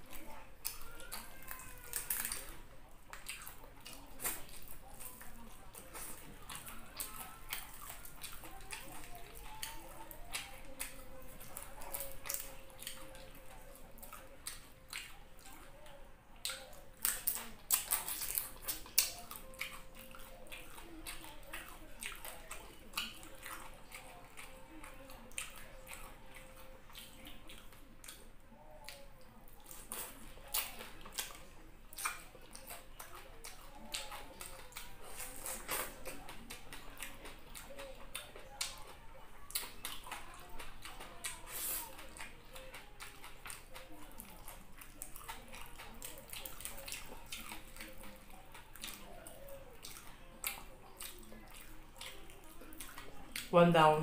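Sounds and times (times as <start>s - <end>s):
chewing: 0.0s - 54.0s
lip smacks: 0.1s - 53.5s.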